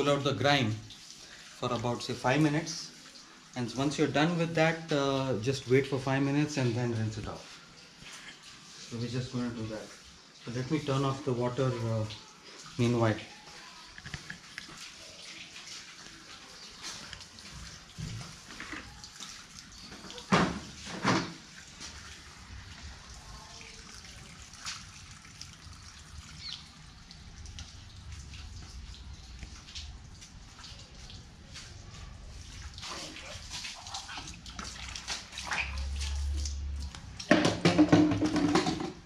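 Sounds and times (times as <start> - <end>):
water trickling and dripping: 0.0 - 39.0.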